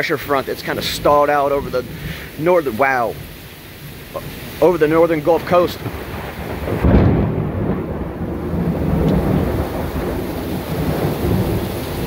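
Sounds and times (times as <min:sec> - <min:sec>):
heavy rain downpour: 0:00.0 - 0:12.0
thunder rumbling: 0:00.0 - 0:12.0.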